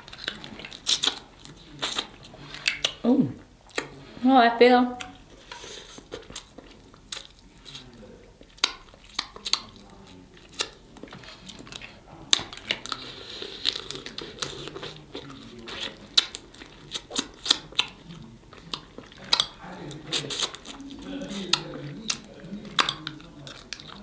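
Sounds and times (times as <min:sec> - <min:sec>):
soft chewing: 0:00.0 - 0:04.3, 0:04.9 - 0:24.0.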